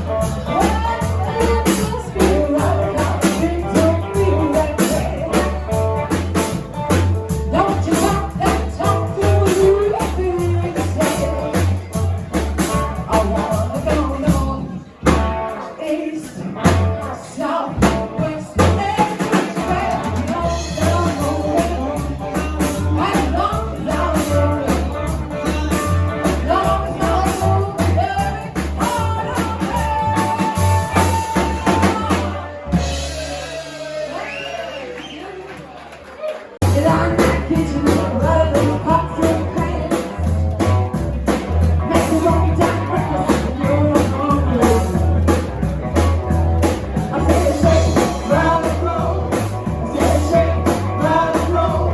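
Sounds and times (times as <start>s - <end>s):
live rock band with vocals: 0.0s - 35.5s, 36.6s - 51.9s.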